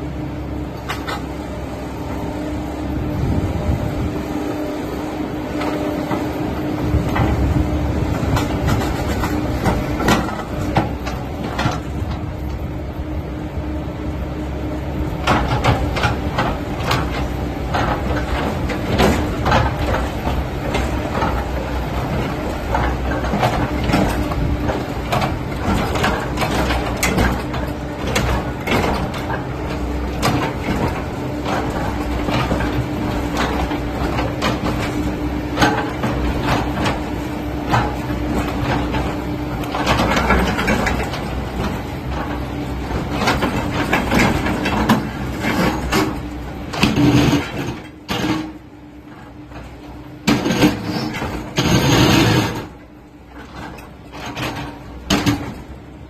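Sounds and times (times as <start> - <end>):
diesel engine humming: 0.0 - 56.0
machine knocks and clanks: 5.5 - 12.7, 15.0 - 56.0.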